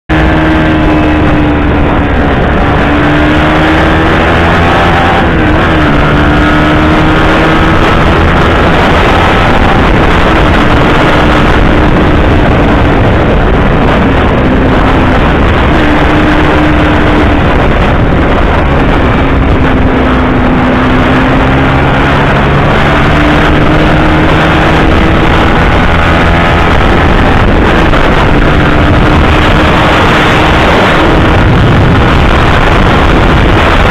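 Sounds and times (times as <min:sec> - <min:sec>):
motorcycle engine at high revs: 0:00.1 - 0:33.9
wind rushing over microphone: 0:00.1 - 0:33.9.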